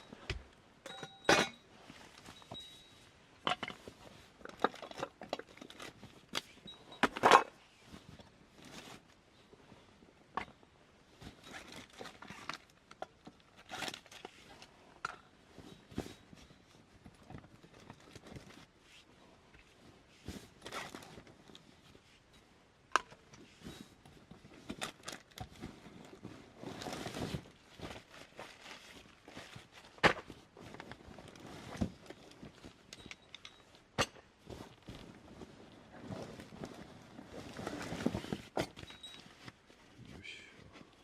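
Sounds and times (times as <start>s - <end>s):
rustling and crinkling: 1.6s - 41.0s.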